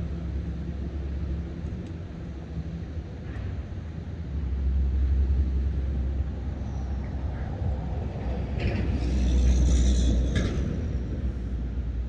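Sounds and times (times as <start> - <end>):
traffic rumbling on bridge: 0.0 - 12.0.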